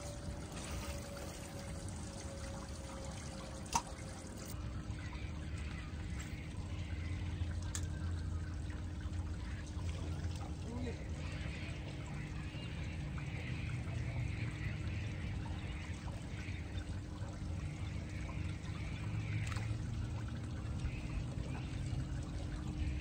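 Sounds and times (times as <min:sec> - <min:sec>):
low steady hum: 0:00.0 - 0:23.0
water trickling and splashing: 0:00.0 - 0:23.0.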